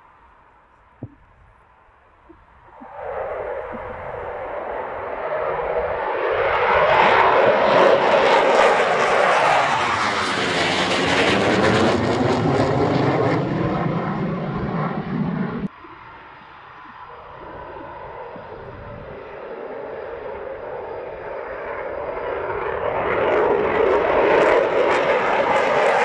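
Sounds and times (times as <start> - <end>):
jet engines passing overhead: 2.3 - 26.0.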